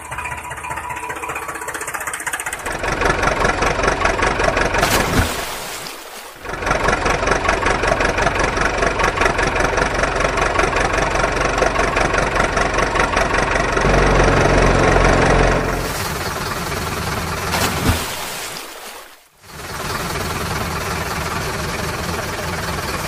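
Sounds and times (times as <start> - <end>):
engine knocking rhythmically: 0.0 - 4.8, 6.4 - 17.6, 19.4 - 23.0.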